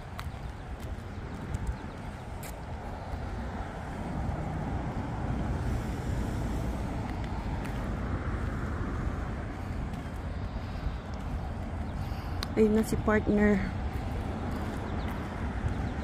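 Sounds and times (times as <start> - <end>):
road traffic rush: 0.0 - 16.0.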